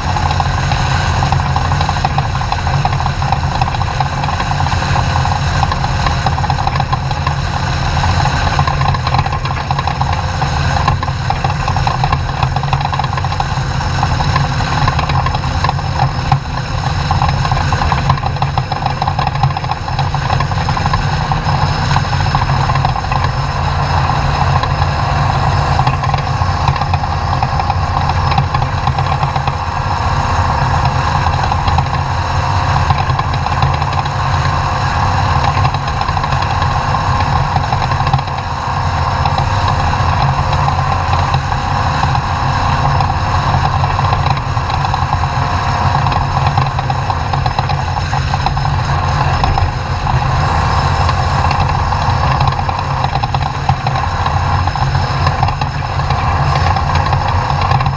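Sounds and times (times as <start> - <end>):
noisy rattle: 0.0 - 57.9
race truck engine running: 0.0 - 57.9.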